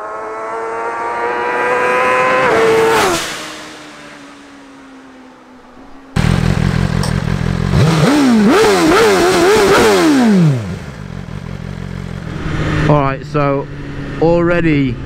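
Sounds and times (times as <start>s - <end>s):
motorcycle passing at speed: 0.0s - 15.0s.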